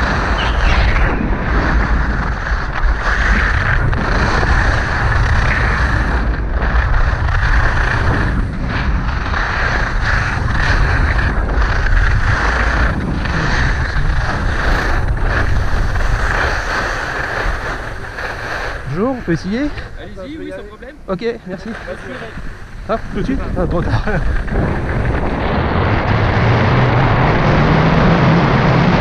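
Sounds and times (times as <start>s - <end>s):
skis scraping on snow: 0.0s - 29.0s
wind on microphone: 0.0s - 29.0s.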